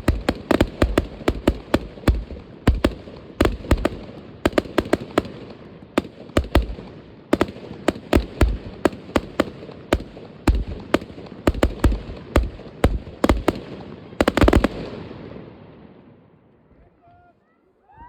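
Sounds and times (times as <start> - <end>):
fireworks bangs: 0.0 - 16.1.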